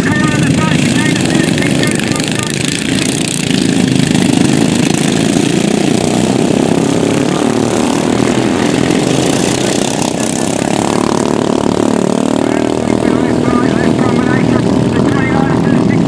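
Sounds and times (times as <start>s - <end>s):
ride-on lawn mower engines racing: 0.0s - 16.0s.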